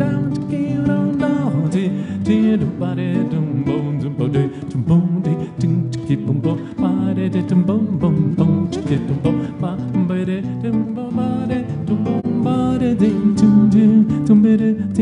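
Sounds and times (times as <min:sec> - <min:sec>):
man singing: 0:00.0 - 0:15.0
nylon-string guitar chords: 0:00.0 - 0:15.0.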